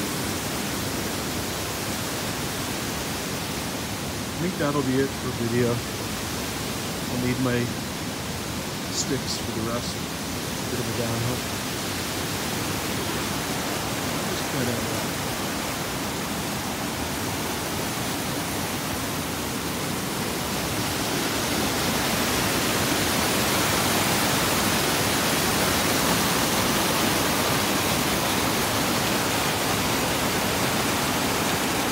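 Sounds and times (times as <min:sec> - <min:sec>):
stream rushing over rocks: 0:00.0 - 0:31.9.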